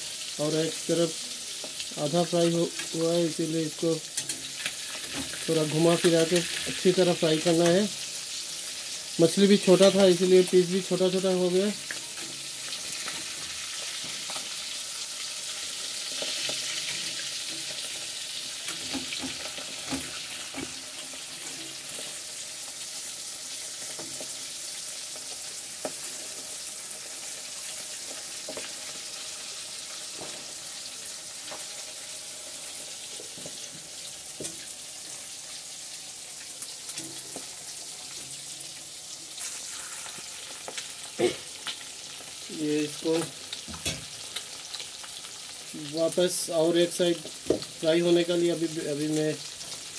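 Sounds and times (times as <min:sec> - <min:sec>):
fish sizzling in hot oil: 0:00.0 - 0:49.9.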